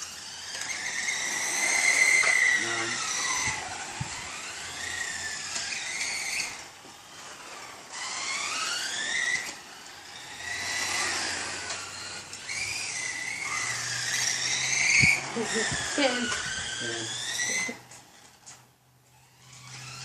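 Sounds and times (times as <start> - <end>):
rc car motors whining: 0.0 - 20.0.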